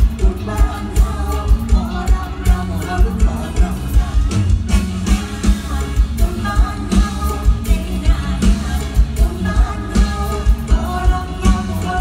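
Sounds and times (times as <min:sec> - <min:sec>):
band with driving drum beat: 0:00.0 - 0:12.0
person singing: 0:00.0 - 0:12.0.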